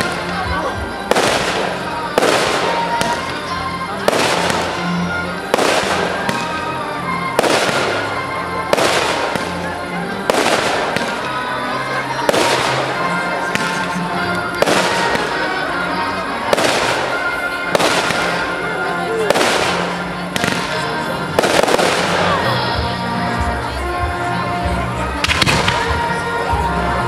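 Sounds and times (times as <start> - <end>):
fireworks bursting with crackle: 0.0 - 23.6, 25.0 - 26.4.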